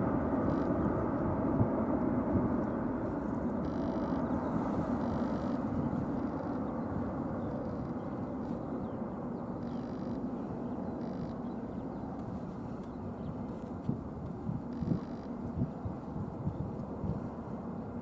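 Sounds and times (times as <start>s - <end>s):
jet engine roar: 0.0s - 14.8s.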